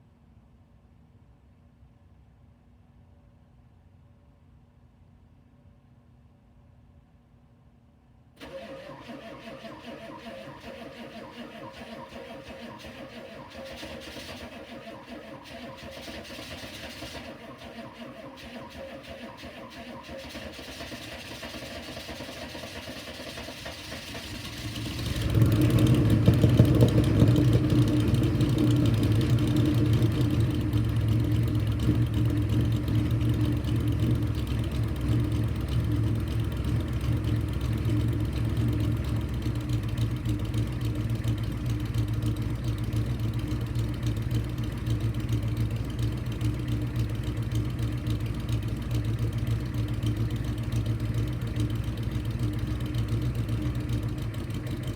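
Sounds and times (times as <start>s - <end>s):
diesel engine idling: 8.4s - 54.9s
diesel engine starting: 8.4s - 54.9s.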